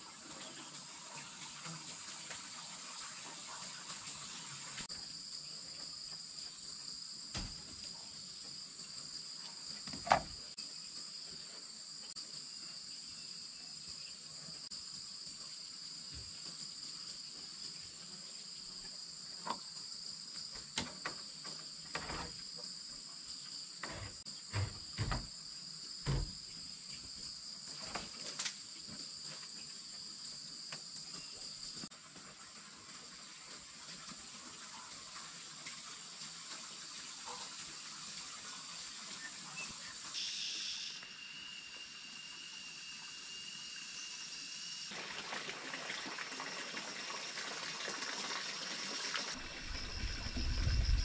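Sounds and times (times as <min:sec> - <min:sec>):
insect chorus: 0:00.0 - 0:51.0.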